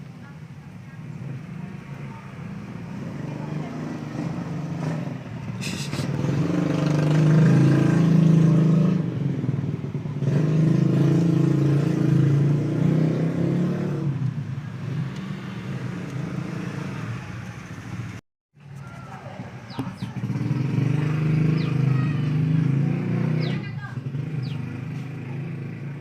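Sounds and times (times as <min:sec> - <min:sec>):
motor vehicle engines passing: 0:00.0 - 0:26.0.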